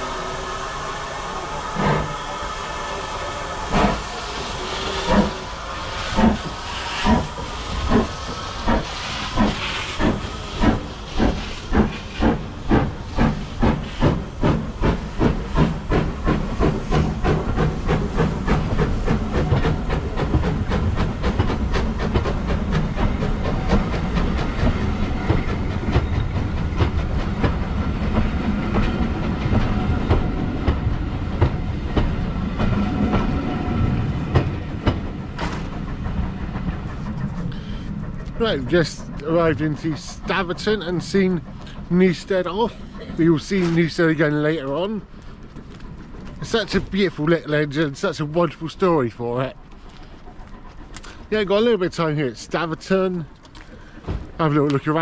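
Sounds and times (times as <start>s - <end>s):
steam hissing: 0.0s - 55.0s
steam locomotive exhaust chuffs: 0.0s - 55.0s.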